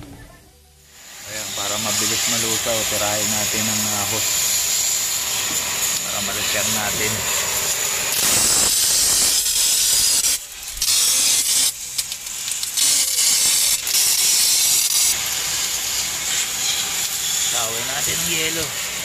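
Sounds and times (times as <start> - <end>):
hose spraying water: 0.8 - 19.0.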